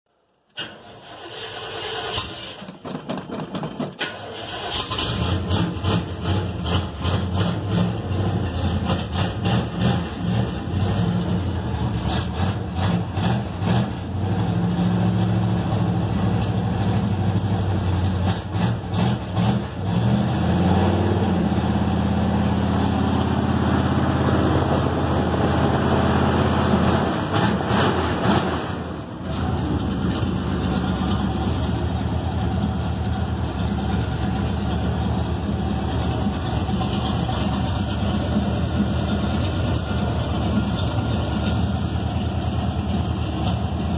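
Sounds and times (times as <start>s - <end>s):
engine running and idling: 0.6s - 43.9s.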